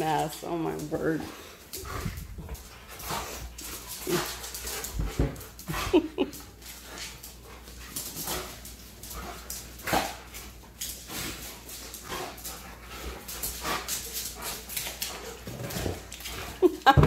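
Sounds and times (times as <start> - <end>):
dogs scuffling on tile floor: 0.0 - 17.0.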